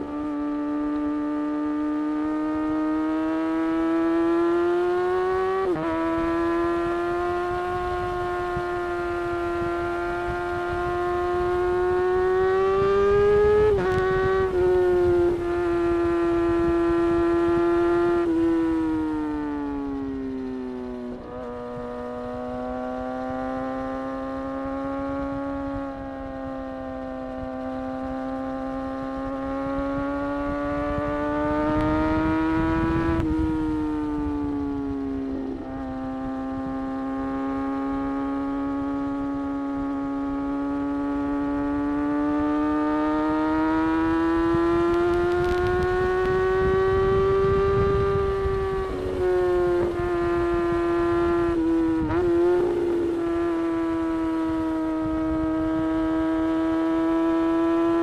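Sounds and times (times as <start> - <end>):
motorcycle engine cruising: 0.0 - 58.0
wind noise: 0.0 - 58.0.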